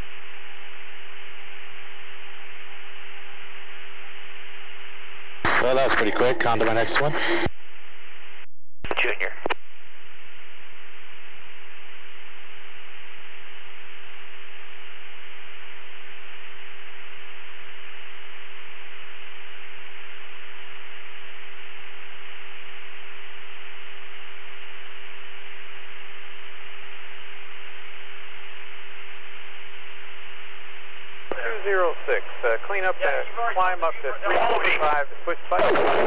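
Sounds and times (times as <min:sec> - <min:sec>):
radio static hiss: 0:00.0 - 0:36.0.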